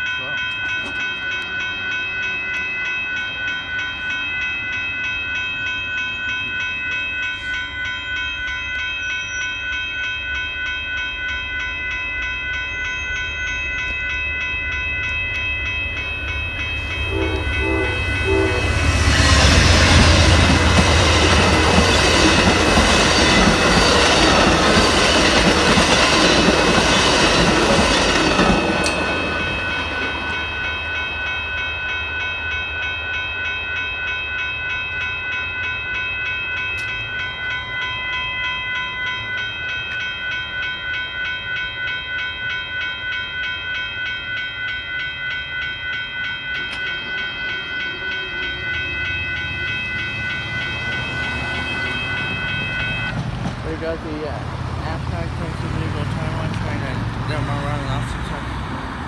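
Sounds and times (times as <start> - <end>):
crossing warning bell ringing: 0.0 - 59.0
train wheels on rails: 0.0 - 59.0.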